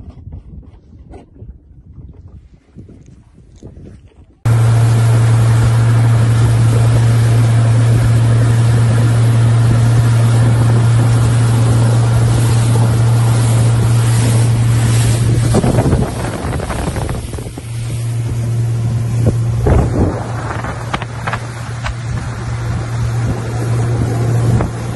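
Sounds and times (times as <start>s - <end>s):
wind and water rushing: 2.2s - 24.9s
motorboat engine drone: 4.5s - 24.9s.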